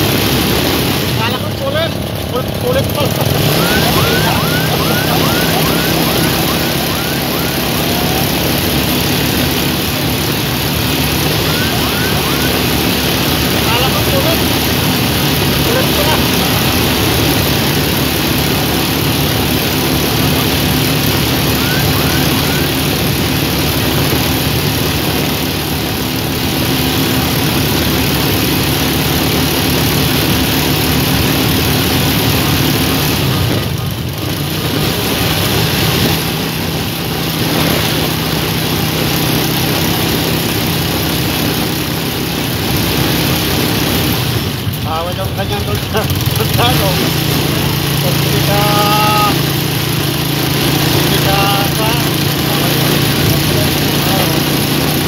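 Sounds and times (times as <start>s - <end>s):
motorcycle engine drone: 0.0s - 55.0s.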